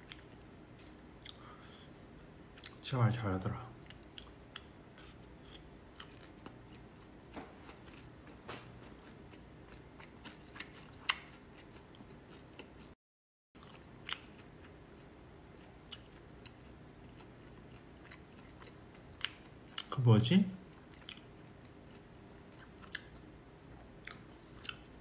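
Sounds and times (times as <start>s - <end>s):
person chewing food: 0.0s - 2.8s, 3.8s - 13.0s, 13.6s - 19.9s, 20.6s - 25.0s
faint room hum: 0.0s - 13.0s, 13.6s - 25.0s.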